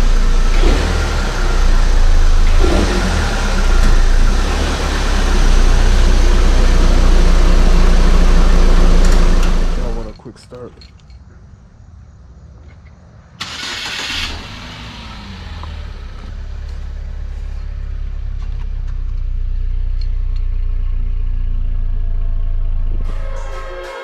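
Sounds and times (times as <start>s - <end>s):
car engine starting and running: 0.0s - 10.3s, 13.4s - 24.0s.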